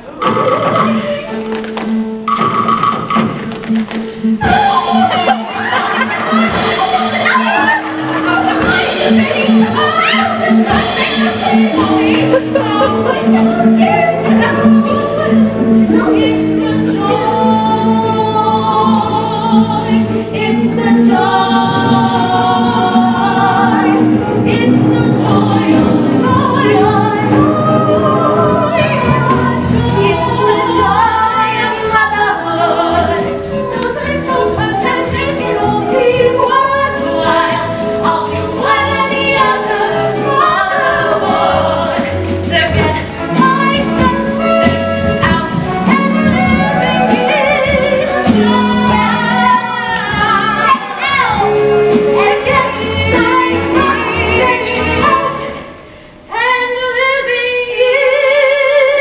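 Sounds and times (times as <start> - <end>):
women singing together: 4.3 - 59.0.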